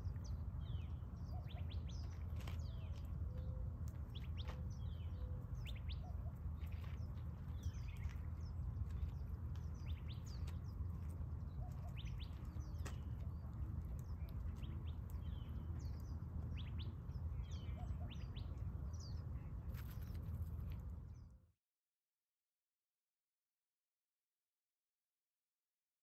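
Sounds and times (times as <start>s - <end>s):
small birds chirping: 0.0s - 21.4s
steady low rumble: 0.0s - 21.5s.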